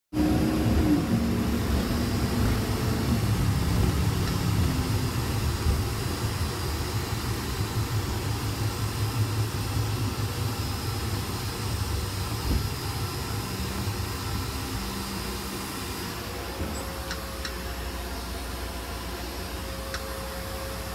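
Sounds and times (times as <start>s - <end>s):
bus engine and road noise: 0.1s - 20.9s.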